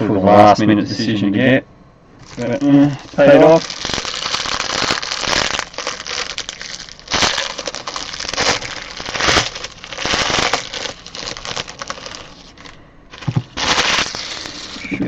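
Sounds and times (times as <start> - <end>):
card pack wrapper tearing and crinkling: 2.2 - 15.0.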